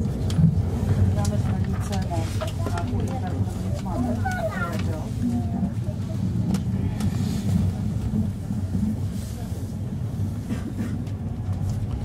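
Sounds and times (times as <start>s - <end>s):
train rumble from inside coach: 0.0s - 12.0s.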